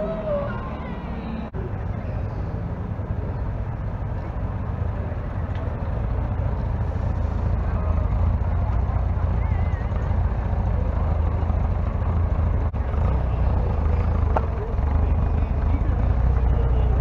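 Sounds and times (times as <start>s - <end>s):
car engines rumbling past: 0.0s - 17.0s.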